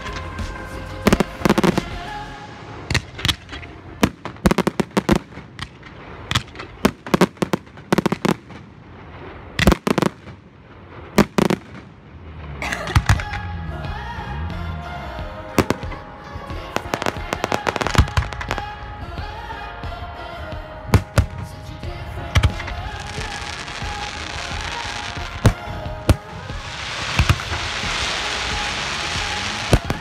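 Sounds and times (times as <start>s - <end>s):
fireworks bangs: 0.0s - 13.6s, 15.4s - 18.9s, 20.9s - 30.0s.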